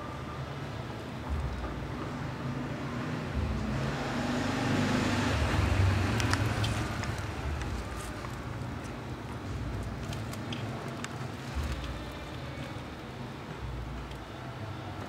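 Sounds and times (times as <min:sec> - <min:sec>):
vehicle rumbling past: 0:01.2 - 0:15.0.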